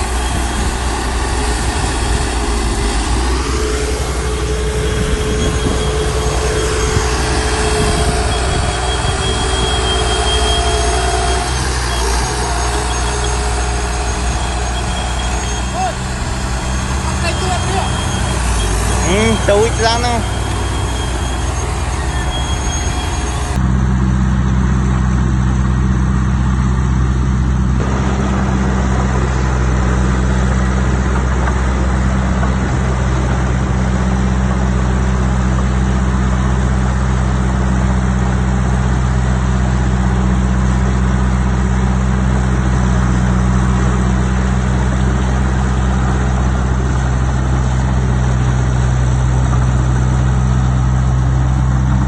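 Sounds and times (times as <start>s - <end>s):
heavy diesel engine droning: 0.0s - 52.0s.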